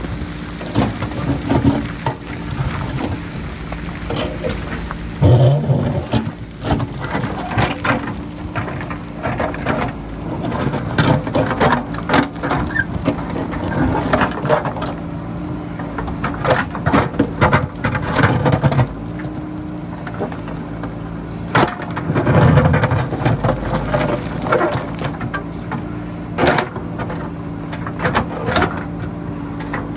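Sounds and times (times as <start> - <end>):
bucket clanking and scraping rock: 0.0 - 29.9
diesel engine running under load: 0.0 - 29.9.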